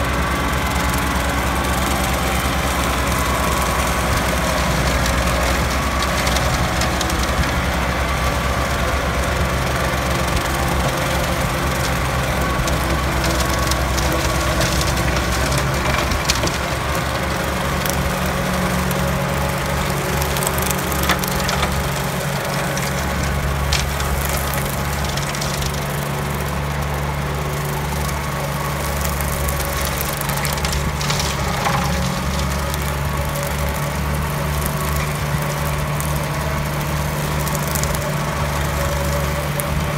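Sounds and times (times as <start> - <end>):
mower chopping grass: 0.0 - 39.9
tractor diesel engine running: 0.0 - 39.9
blades cracking and snapping stems: 0.6 - 39.9.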